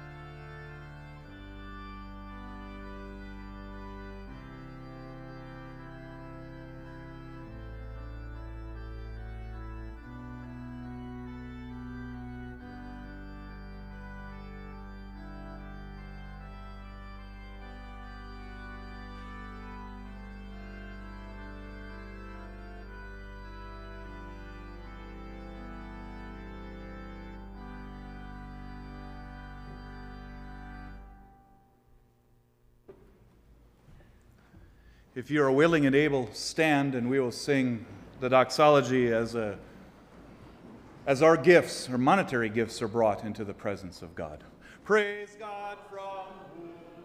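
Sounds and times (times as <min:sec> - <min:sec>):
church organ playing chords: 0:00.0 - 0:47.0.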